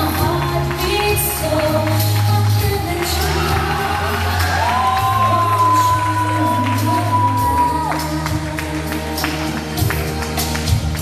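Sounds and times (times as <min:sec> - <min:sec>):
steady bass line: 0:00.0 - 0:11.0.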